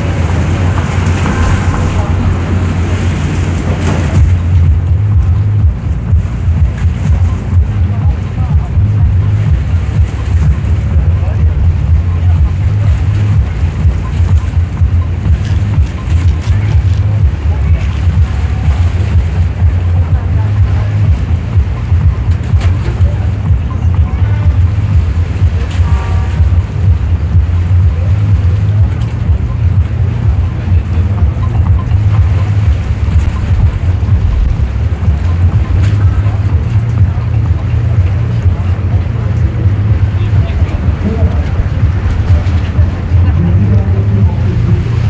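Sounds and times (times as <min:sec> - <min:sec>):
boat rumble: 0:00.0 - 0:45.0
choppy river water: 0:00.0 - 0:45.0
wind buffeting microphone: 0:00.0 - 0:45.0.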